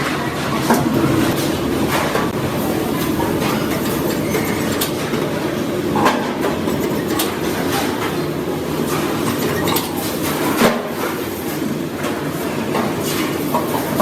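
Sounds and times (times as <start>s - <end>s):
mechanical rumble and rattle: 0.6s - 14.0s.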